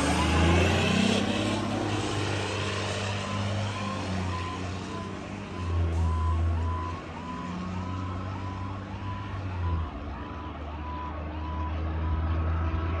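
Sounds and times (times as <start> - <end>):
fire engine siren yelping: 0.0 - 13.0
truck engine drone: 0.0 - 13.0.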